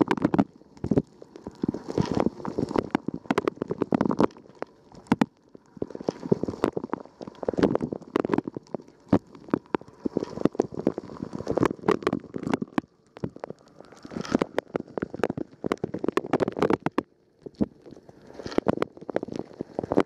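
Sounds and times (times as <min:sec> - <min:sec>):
water sloshing gurgle: 0:00.0 - 0:20.0.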